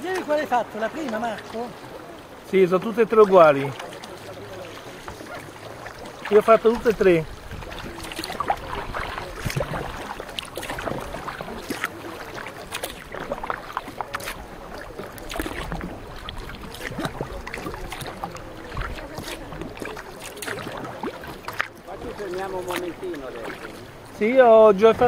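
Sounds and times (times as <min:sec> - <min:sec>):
canoe paddles splashing: 0:00.0 - 0:25.0
steady wash of water: 0:00.0 - 0:25.0.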